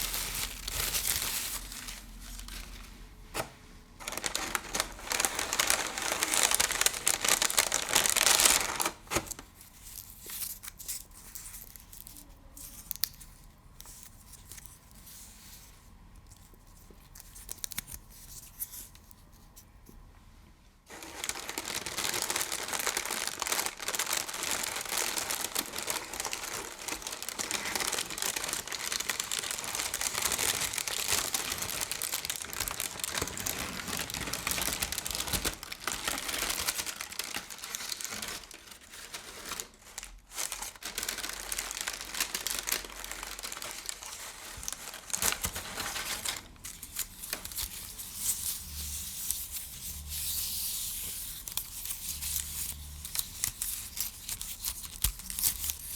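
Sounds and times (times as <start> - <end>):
crinkling and rustling: 0.0 - 20.0, 20.9 - 55.9.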